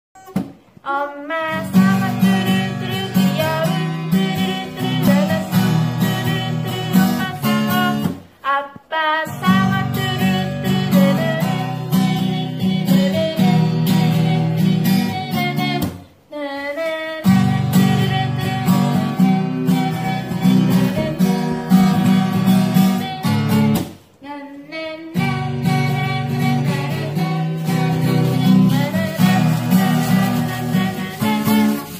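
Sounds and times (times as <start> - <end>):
acoustic guitar strumming: 0.2 - 8.5, 9.2 - 16.2, 17.2 - 24.1, 25.1 - 31.9
woman singing: 0.2 - 31.9.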